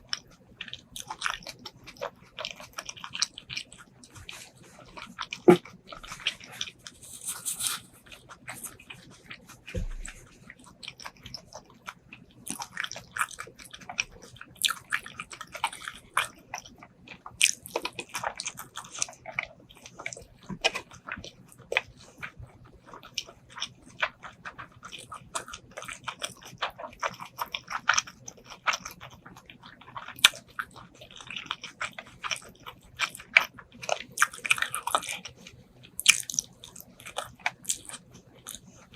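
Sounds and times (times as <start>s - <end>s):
crunches and clicks while eating: 0.0s - 38.9s
wet chewing: 0.0s - 38.9s.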